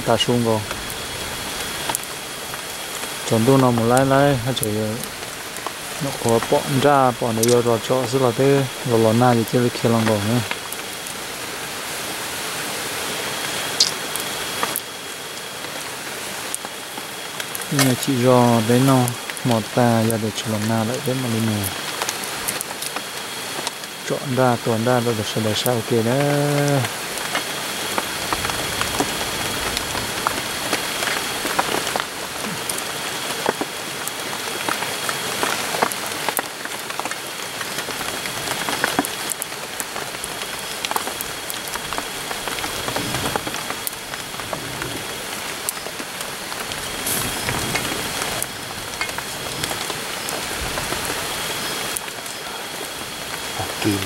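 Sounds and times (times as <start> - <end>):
wood fire crackling: 0.0 - 54.0
meat sizzling in a pot: 0.3 - 53.6.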